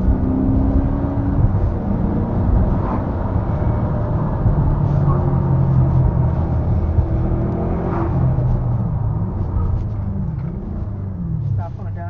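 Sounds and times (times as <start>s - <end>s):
car engine running from inside cabin: 0.0s - 12.0s.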